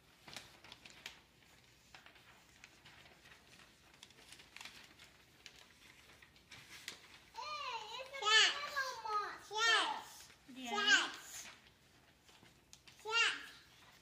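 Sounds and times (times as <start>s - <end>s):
newspaper rustling and crinkling: 0.0s - 14.0s.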